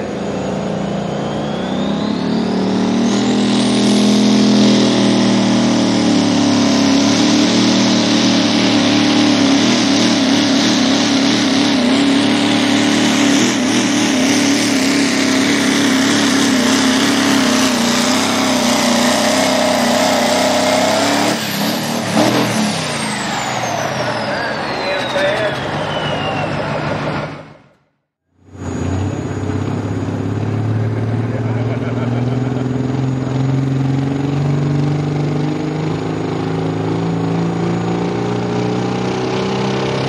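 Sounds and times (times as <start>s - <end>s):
diesel truck engine at full throttle: 0.0s - 40.0s
turbo whine: 0.0s - 40.0s.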